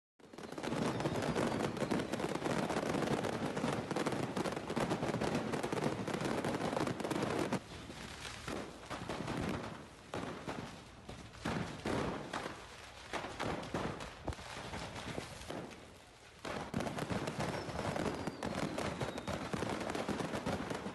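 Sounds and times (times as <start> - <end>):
fireworks cracking and banging: 0.2 - 20.9.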